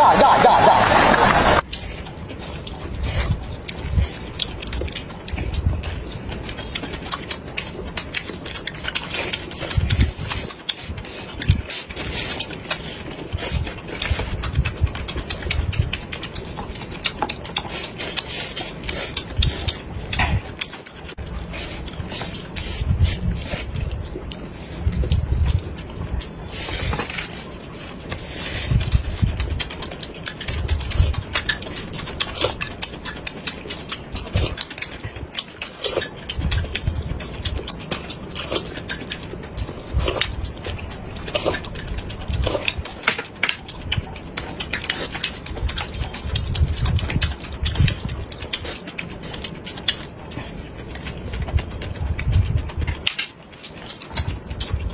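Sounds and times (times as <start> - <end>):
people chewing food: 0.0 - 54.9.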